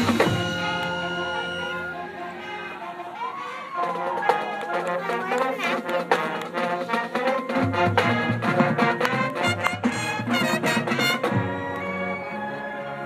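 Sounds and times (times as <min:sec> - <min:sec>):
marching band brass and percussion: 0:00.0 - 0:13.0.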